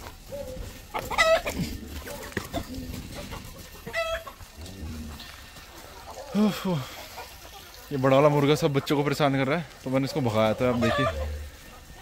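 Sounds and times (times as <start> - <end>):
loud chicken calls: 0.0 - 8.8, 10.1 - 12.0
chickens clucking: 0.0 - 12.0.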